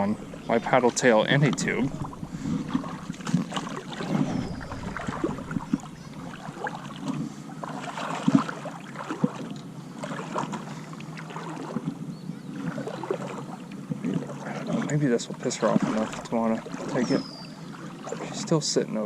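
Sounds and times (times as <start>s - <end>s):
water splashing around legs: 0.0s - 18.6s.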